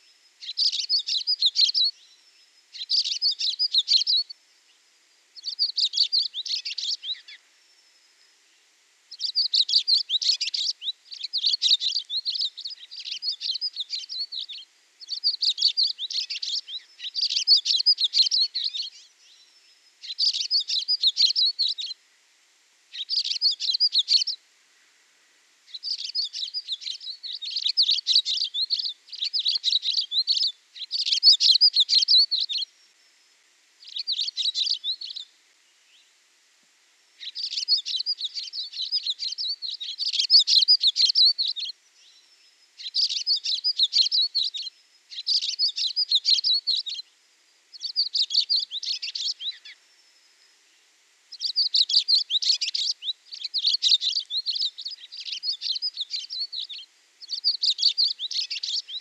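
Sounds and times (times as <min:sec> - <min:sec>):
songbird twittering: 0:00.0 - 0:04.8, 0:05.4 - 0:08.4, 0:09.1 - 0:22.0, 0:22.9 - 0:24.4, 0:25.7 - 0:32.8, 0:33.8 - 0:36.1, 0:37.2 - 0:47.1, 0:47.7 - 0:50.6, 0:51.3 - 0:59.0.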